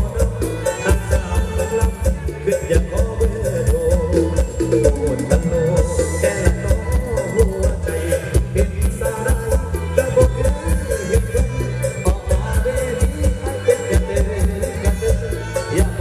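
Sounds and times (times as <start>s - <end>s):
music with heavy bass beat: 0.0s - 16.0s.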